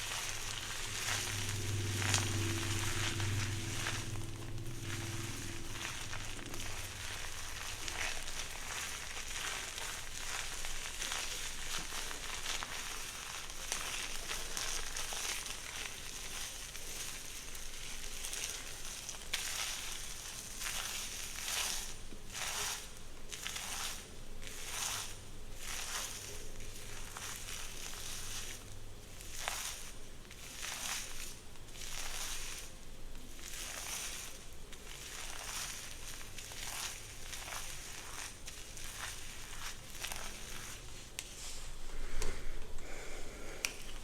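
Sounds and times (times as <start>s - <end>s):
crackling strokes through hair: 0.0s - 44.0s.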